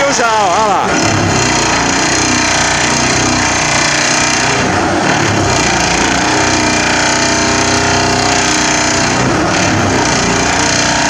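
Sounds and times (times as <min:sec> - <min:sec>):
vibratory pile driver droning: 0:00.0 - 0:11.0.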